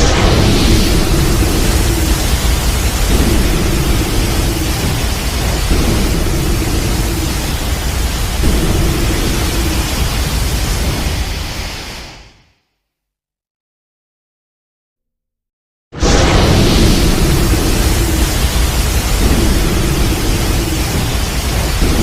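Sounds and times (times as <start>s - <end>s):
explosion rush and rumble: 0.0s - 12.5s, 16.0s - 22.0s.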